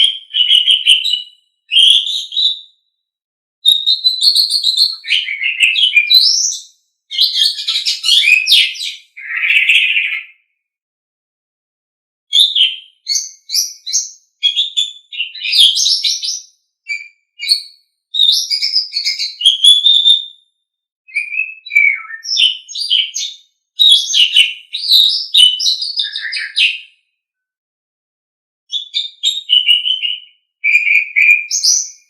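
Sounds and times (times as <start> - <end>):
bird chattering and whistling: 0.0 - 2.6, 3.6 - 10.4, 12.3 - 20.2, 21.1 - 26.8, 28.7 - 32.0.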